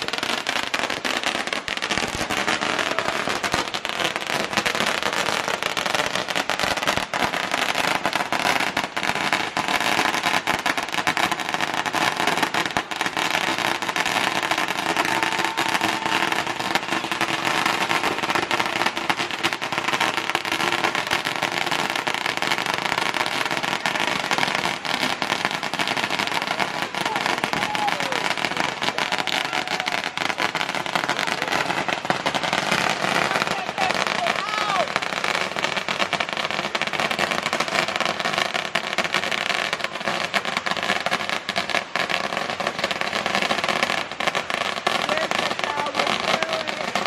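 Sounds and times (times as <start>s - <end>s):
fireworks crackling: 0.0s - 47.0s.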